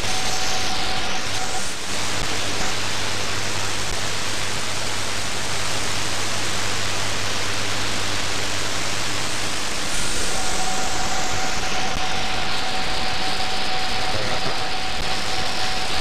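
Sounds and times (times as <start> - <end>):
shortwave radio static: 0.0 - 16.0.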